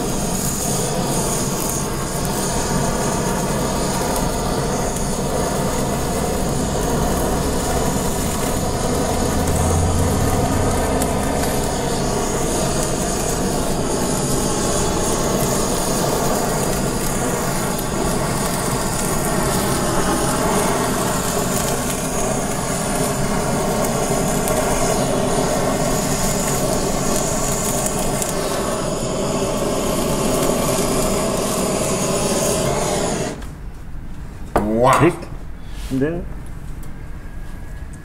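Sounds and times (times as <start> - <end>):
butane torch burning: 0.0 - 35.2.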